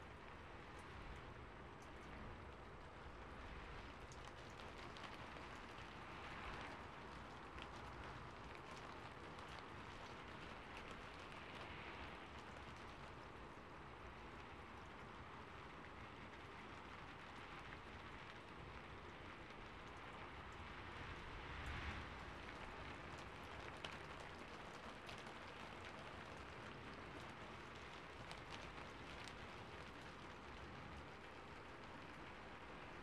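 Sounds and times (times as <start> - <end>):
rain pattering on a roof: 0.0 - 33.0.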